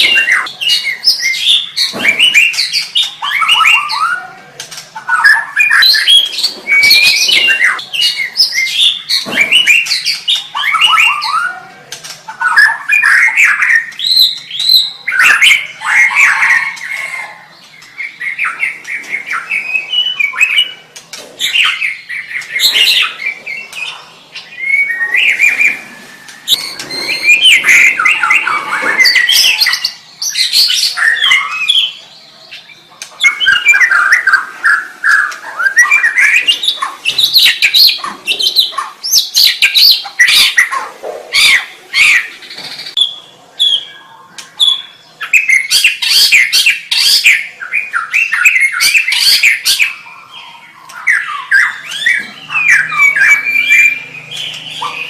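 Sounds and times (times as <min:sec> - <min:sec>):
songbird singing loudly: 0:00.0 - 0:04.4, 0:05.0 - 0:11.6, 0:21.5 - 0:55.0.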